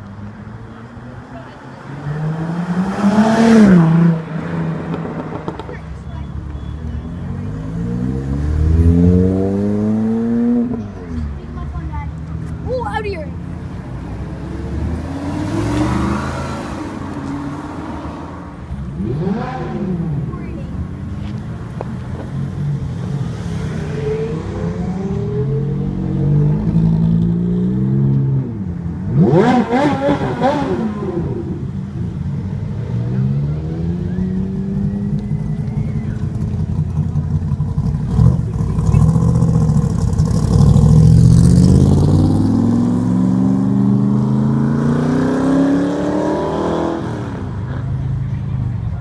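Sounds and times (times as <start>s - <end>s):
sports car engines revving: 0.0s - 49.0s.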